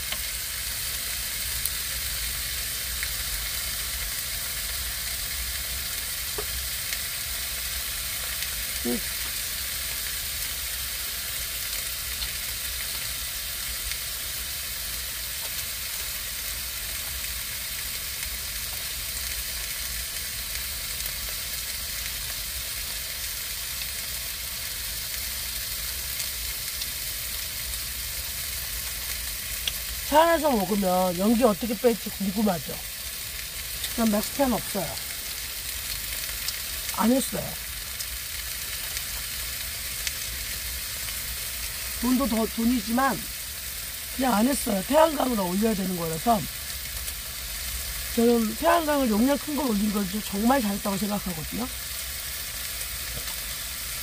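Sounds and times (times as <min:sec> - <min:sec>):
meat sizzling in a pan: 0:00.0 - 0:54.0.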